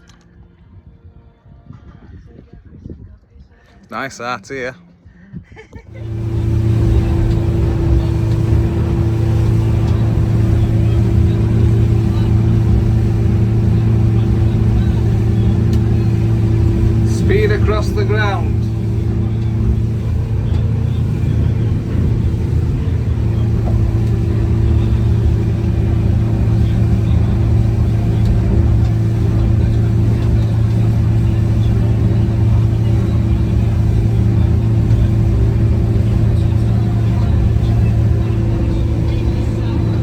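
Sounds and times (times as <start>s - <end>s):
boat engine droning: 5.9s - 40.0s.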